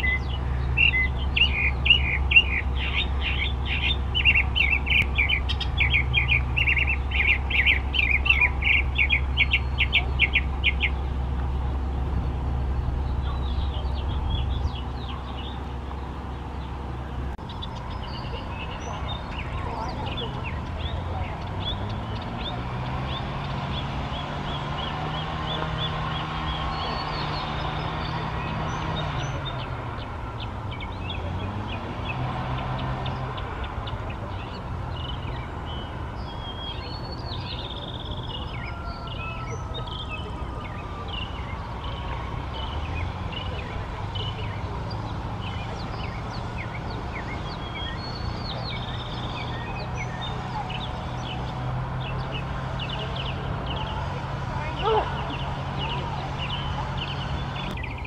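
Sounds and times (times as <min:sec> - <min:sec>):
mockingbird singing: 0:00.0 - 0:58.0.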